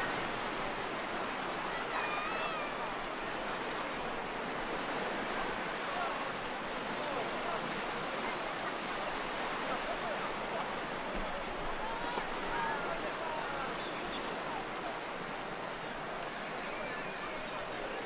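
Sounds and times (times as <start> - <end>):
waves on a beach: 0.0 - 18.0
distant people's voices: 0.1 - 18.0.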